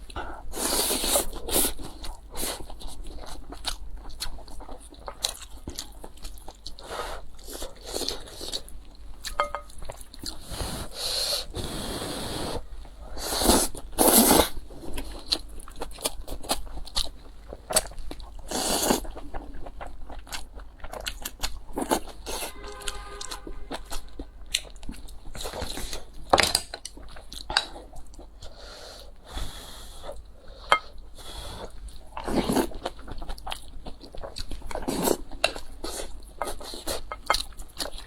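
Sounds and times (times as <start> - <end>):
person chewing and crunching food: 0.0 - 11.8, 12.6 - 38.0.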